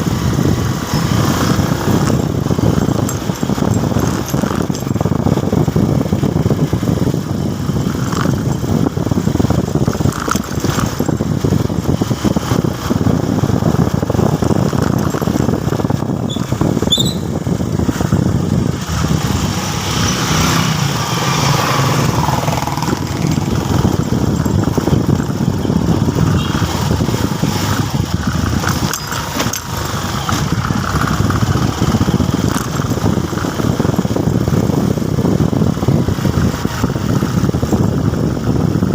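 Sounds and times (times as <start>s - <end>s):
motorcycle running: 0.0s - 38.9s.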